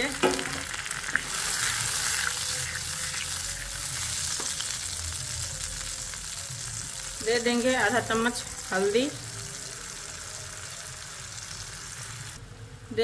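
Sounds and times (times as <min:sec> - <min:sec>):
paste sizzling in oil: 0:00.0 - 0:12.4.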